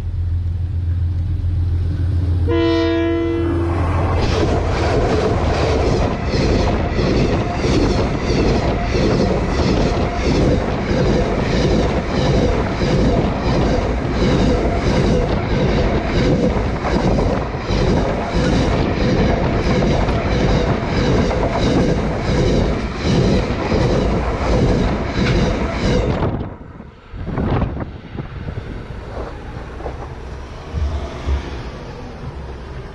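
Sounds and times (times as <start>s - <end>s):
train wagons rolling over rails: 3.7s - 32.9s.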